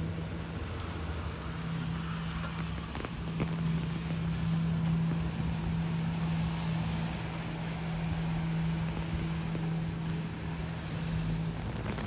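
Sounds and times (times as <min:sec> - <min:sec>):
low engine hum: 0:00.0 - 0:12.0
street noise hiss: 0:00.0 - 0:12.0.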